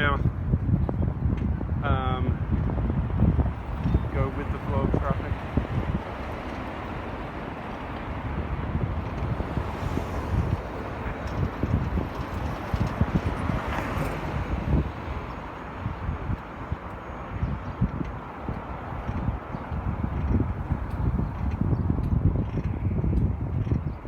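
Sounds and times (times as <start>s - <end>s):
street traffic rushing: 0.0s - 24.0s
wind buffeting microphone: 0.0s - 24.0s.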